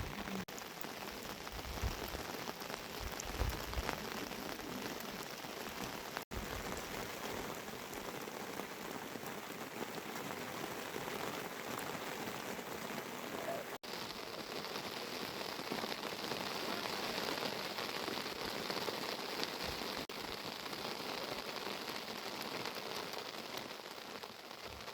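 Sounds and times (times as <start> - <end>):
rain falling: 0.0 - 24.9.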